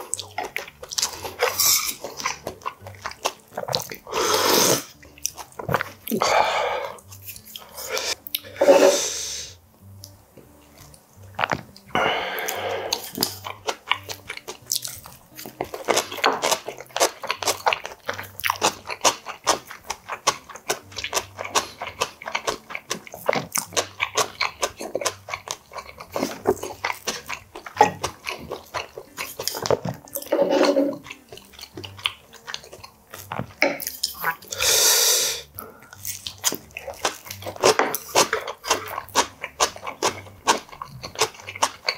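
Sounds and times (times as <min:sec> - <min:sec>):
man chewing food: 0:00.0 - 0:41.9.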